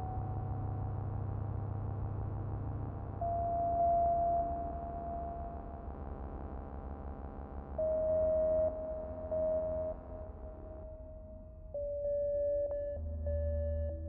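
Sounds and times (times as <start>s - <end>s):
low steady drone: 0.0s - 14.0s.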